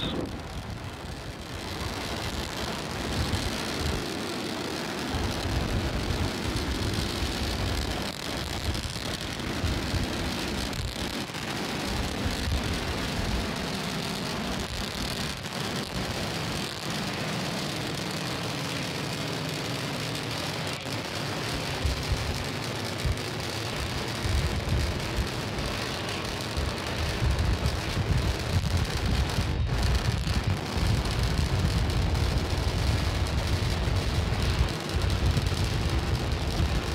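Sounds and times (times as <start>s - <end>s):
rocket engines roaring: 0.0s - 36.9s.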